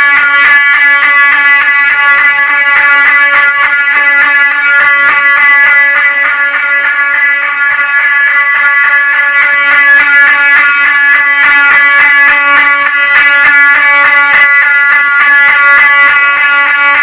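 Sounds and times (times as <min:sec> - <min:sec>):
fire alarm horn: 0:00.0 - 0:17.0.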